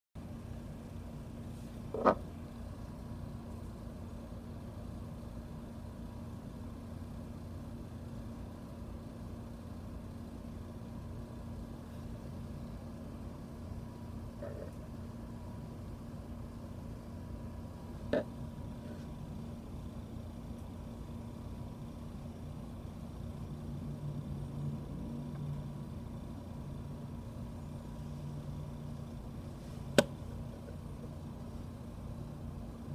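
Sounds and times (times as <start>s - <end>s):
low electrical hum: 0.2s - 32.9s.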